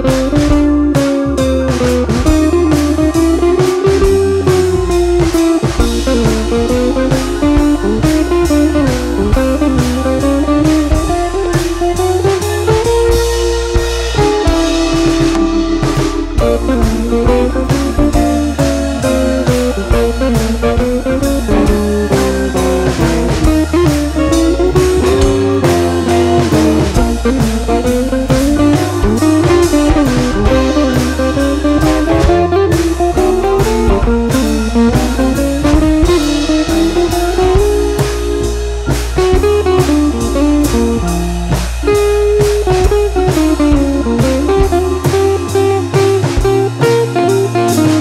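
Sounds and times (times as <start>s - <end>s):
bass: 0.0s - 48.0s
blues guitar melody: 0.0s - 48.0s
drum kit beat: 0.0s - 48.0s.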